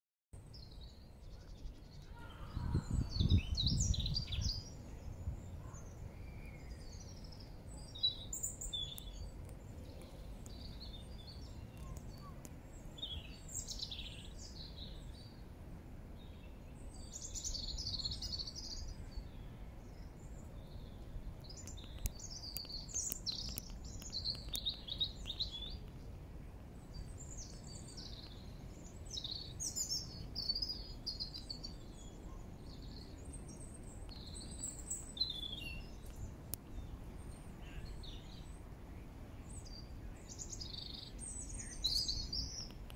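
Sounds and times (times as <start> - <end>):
songbirds chirping: 0.4 - 42.9.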